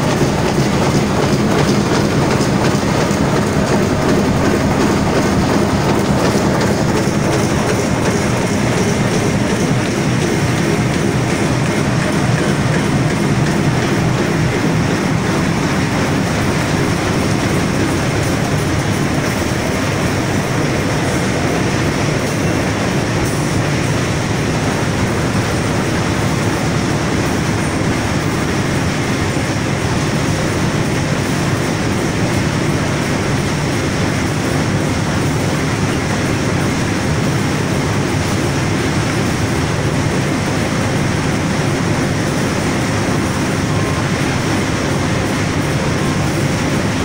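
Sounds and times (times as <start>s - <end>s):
machine and conveyors running: 0.0s - 47.0s.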